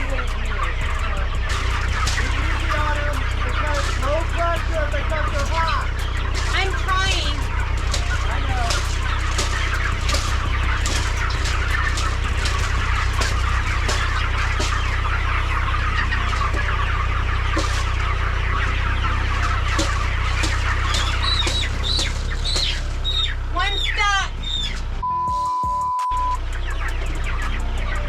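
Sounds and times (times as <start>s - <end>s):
chickens clucking: 0.0s - 25.0s, 26.2s - 28.0s
low hum: 0.0s - 28.0s.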